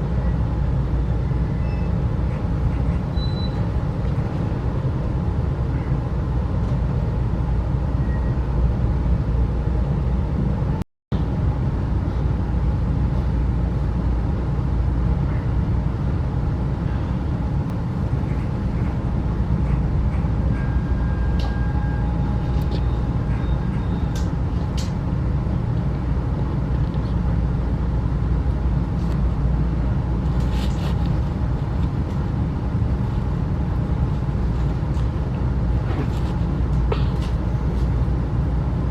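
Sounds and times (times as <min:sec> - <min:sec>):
train coach rumbling on rails: 0:00.0 - 0:38.9.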